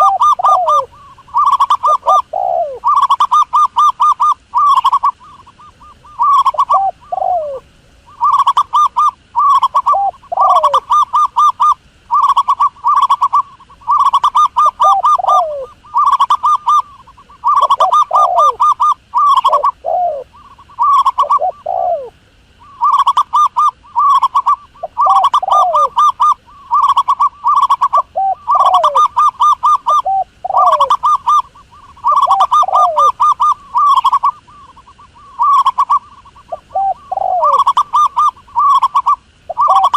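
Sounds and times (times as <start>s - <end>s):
dove trilled coos: 0.0s - 39.9s.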